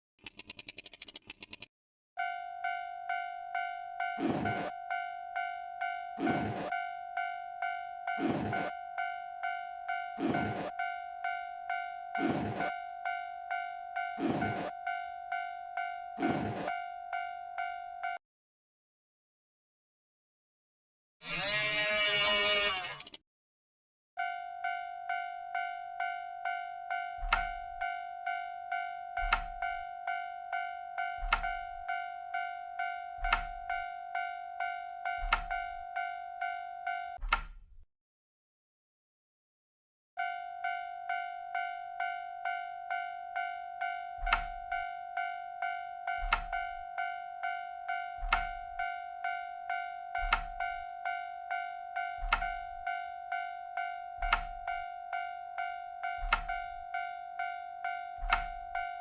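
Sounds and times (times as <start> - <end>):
railroad crossing bell ringing: 2.2 - 18.2, 24.2 - 37.2, 40.2 - 59.0.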